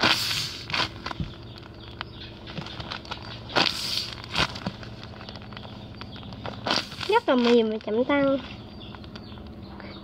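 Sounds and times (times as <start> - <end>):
paper crinkling and rustling: 0.0 - 8.3.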